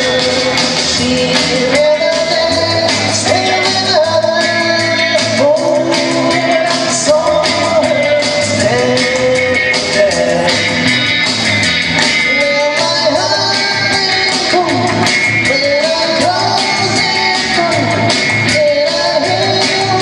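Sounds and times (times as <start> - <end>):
person singing: 0.0 - 11.3, 12.0 - 20.0
rock and roll song: 0.0 - 20.0.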